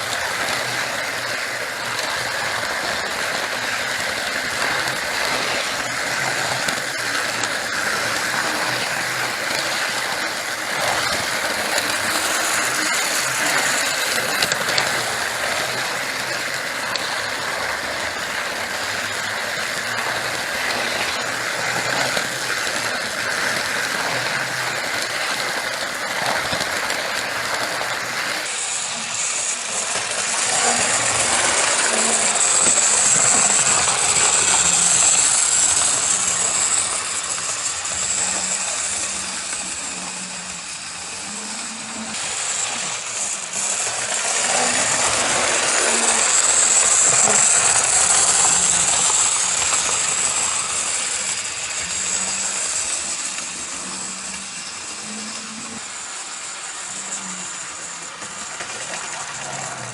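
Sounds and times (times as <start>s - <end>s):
model train motor whirring: 0.0s - 59.9s
wheels clicking on track: 0.0s - 59.9s.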